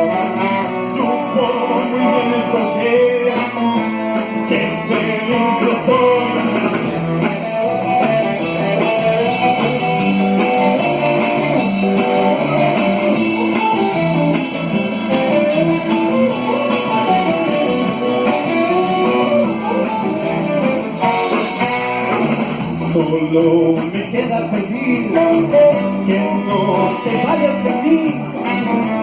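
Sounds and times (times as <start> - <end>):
guitar melody: 0.0 - 29.0
live band playing: 0.0 - 29.0.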